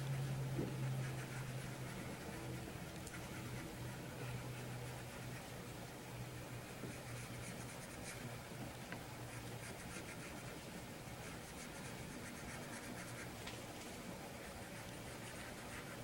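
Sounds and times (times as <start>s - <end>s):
low steady hum: 0.0s - 16.0s
pencil scratching on paper: 0.1s - 5.5s, 6.4s - 8.3s, 9.3s - 13.4s, 14.4s - 16.0s.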